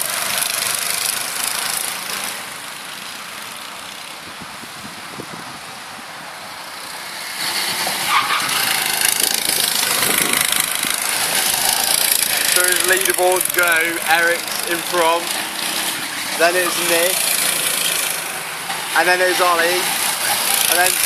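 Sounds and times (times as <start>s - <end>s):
go-kart engines running: 0.0s - 4.8s, 6.4s - 21.0s.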